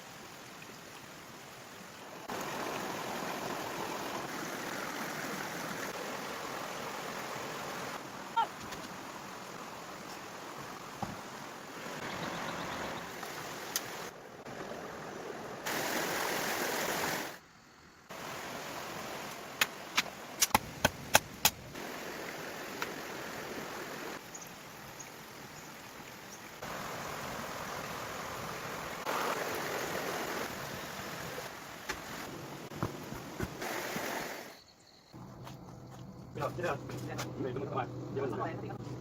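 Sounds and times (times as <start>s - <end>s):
rushing water: 0.0s - 17.4s, 18.1s - 34.6s.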